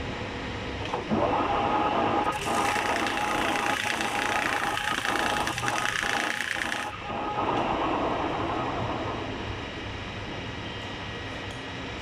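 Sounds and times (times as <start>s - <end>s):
machinery humming: 0.0s - 11.3s.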